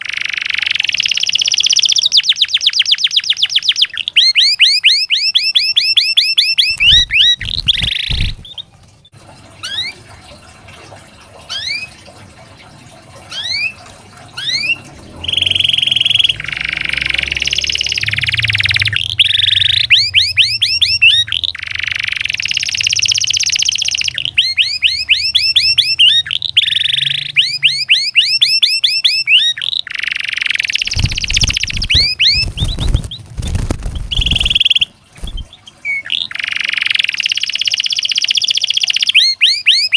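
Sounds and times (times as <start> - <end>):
canary singing: 0.0 - 8.7, 11.5 - 12.0, 13.3 - 13.8, 14.4 - 39.9.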